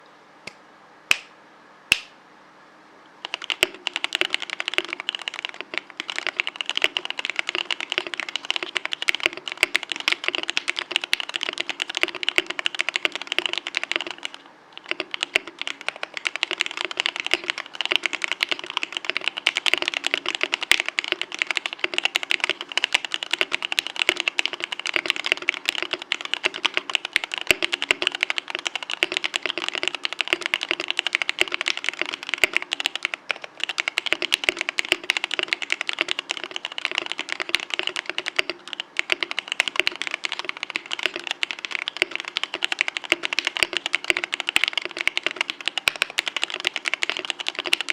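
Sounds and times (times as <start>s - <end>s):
mechanical keyboard typing: 3.2s - 47.9s.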